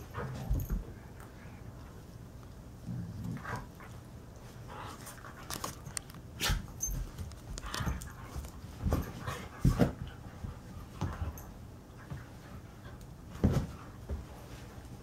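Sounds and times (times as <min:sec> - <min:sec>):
dogs whining and playing: 0:00.0 - 0:02.1, 0:02.7 - 0:15.0.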